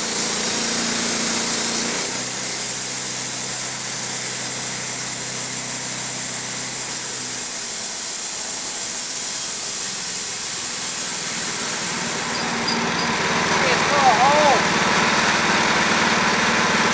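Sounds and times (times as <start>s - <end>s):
band sawmill running: 0.0s - 16.9s.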